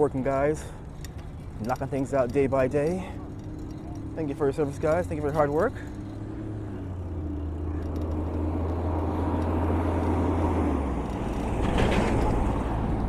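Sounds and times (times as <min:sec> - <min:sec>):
vehicle rumble approaching: 0:00.0 - 0:13.0.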